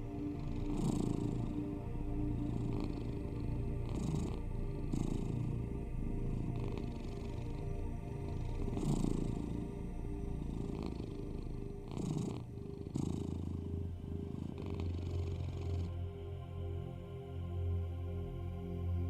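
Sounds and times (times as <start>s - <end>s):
cat purring: 0.0s - 16.0s
low steady hum: 0.0s - 19.0s.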